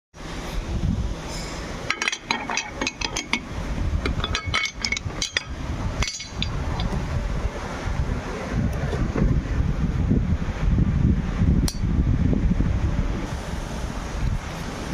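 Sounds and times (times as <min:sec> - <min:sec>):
steady low rumble: 0:00.2 - 0:14.9.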